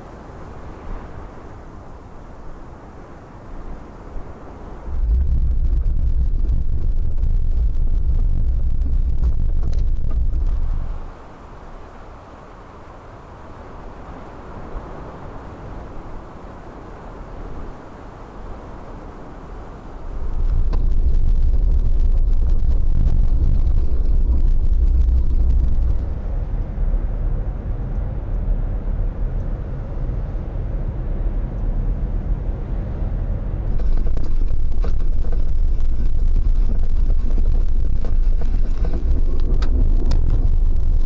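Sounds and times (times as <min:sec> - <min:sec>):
vehicle engine and tyres rumbling: 0:00.0 - 0:41.0.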